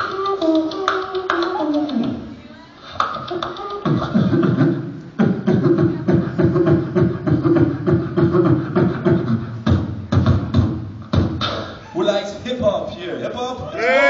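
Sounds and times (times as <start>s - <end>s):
person beatboxing: 0.0s - 11.9s.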